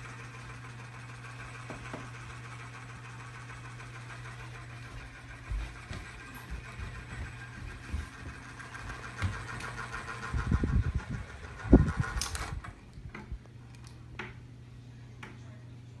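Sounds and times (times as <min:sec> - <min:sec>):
small ceiling fan whirring: 0:00.0 - 0:16.0.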